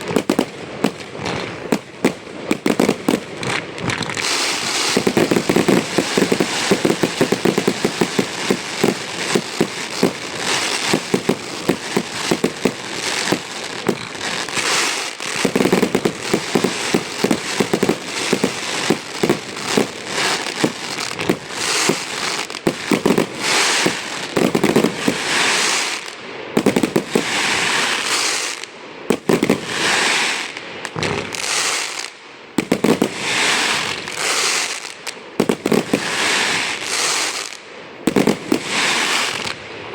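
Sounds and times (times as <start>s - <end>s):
fireworks bangs: 0.0s - 39.9s
fireworks crackling and hissing: 0.0s - 39.9s.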